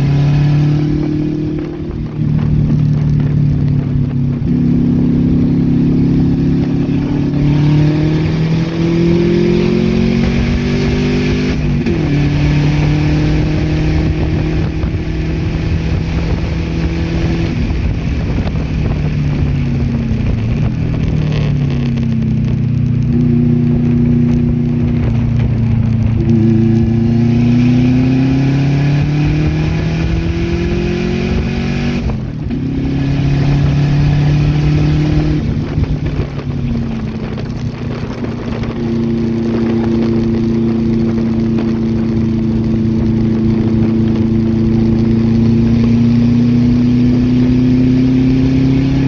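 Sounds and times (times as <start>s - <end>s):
race car engine accelerating: 0.0s - 49.0s.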